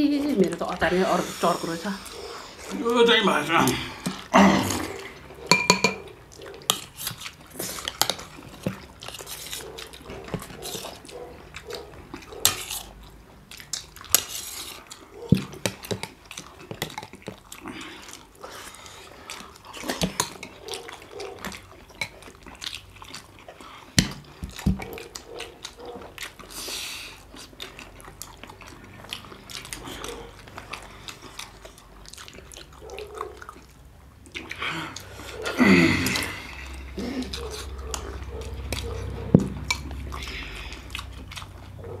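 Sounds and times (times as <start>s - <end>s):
chewing: 0.0s - 42.0s
slurping: 0.2s - 42.0s.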